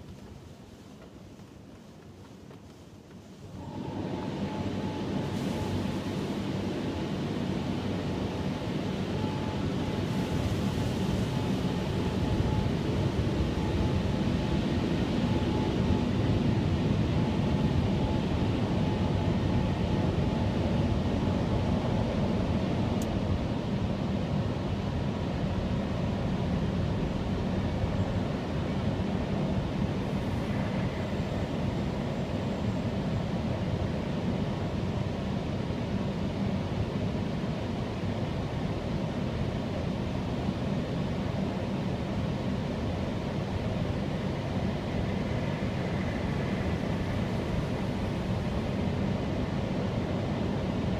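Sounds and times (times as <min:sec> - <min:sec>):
faint steady whine: 0:00.0 - 0:50.9.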